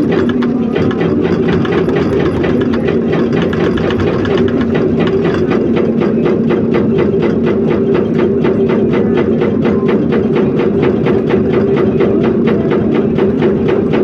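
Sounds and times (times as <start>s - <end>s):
diesel engine running: 0.0s - 14.0s
hydraulic rock breaker hammering: 0.0s - 14.0s.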